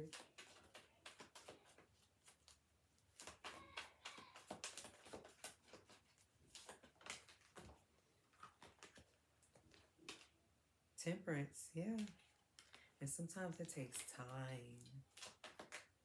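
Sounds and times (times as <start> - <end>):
cards being shuffled: 0.0 - 10.4, 11.7 - 16.0.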